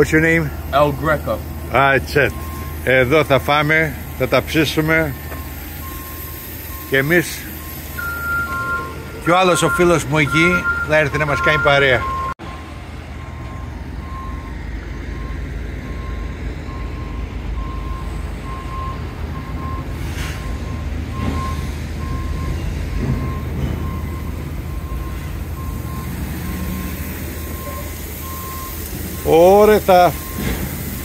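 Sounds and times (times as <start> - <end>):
truck engines rumbling: 0.0 - 31.0
truck reversing alarm beeping: 0.0 - 31.0.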